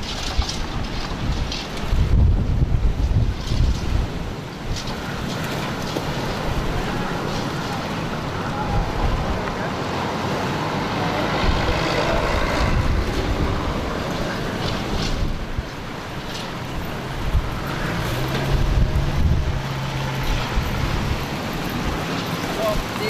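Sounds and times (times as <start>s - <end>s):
strong wind rushing: 0.0s - 23.0s
wind buffeting microphone: 0.0s - 23.0s.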